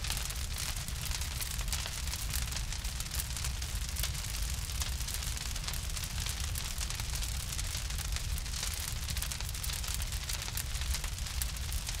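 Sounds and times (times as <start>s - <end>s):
fire crackling with pops: 0.0s - 12.0s.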